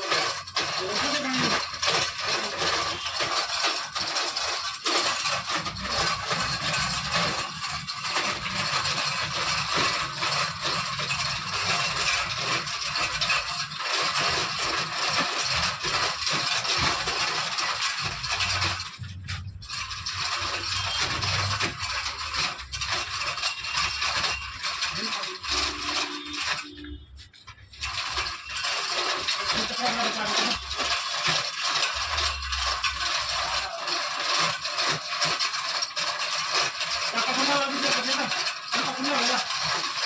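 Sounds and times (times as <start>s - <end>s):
mechanical grating and rattling: 0.0s - 40.0s.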